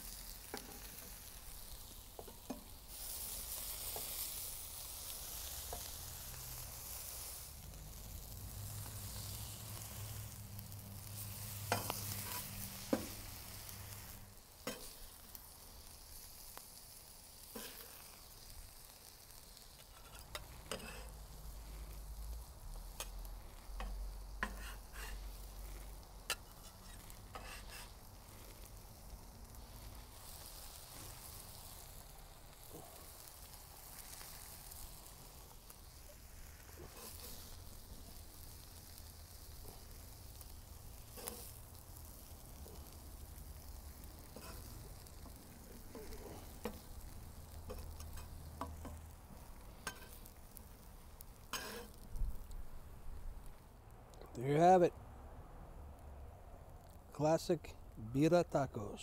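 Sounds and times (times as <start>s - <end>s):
meat sizzling on a griddle: 0.0s - 54.9s, 56.7s - 57.5s
spatula scraping griddle: 0.1s - 16.4s, 17.4s - 31.8s, 32.5s - 52.2s.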